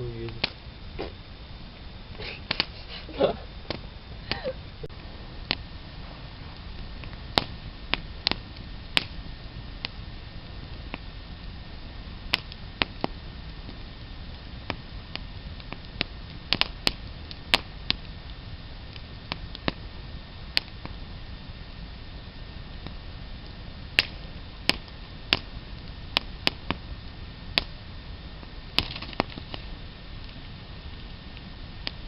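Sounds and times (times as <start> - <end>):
campfire crackling and popping: 0.0 - 32.0
steady low hiss: 0.0 - 32.0.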